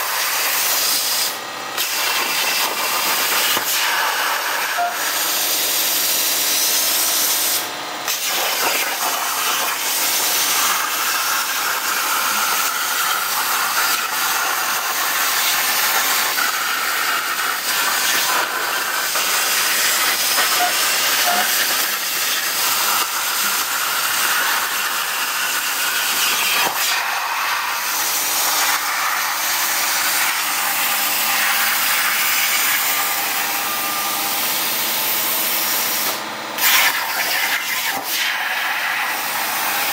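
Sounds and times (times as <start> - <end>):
plasma torch cutting metal: 0.0 - 39.9.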